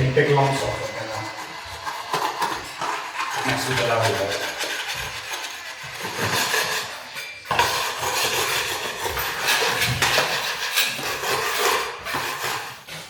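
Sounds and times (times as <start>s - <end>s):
hand tool scraping floor: 0.0s - 13.0s.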